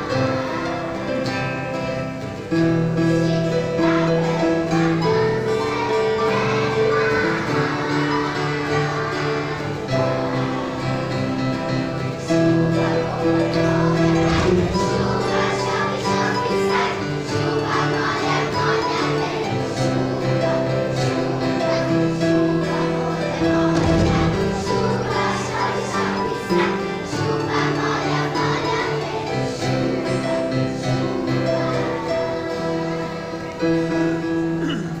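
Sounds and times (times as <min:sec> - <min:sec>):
acoustic guitar: 0:00.0 - 0:35.0
children's choir singing: 0:00.0 - 0:35.0
piano accompaniment: 0:00.0 - 0:35.0.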